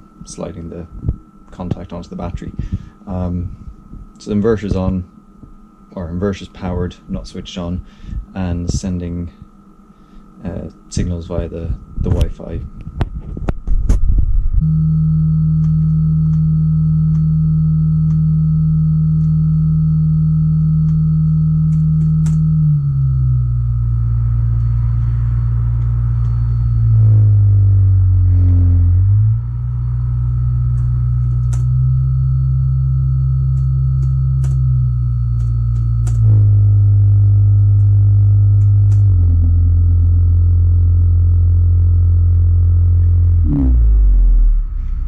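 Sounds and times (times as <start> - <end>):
electric motor hum and whine: 0.0 - 45.0.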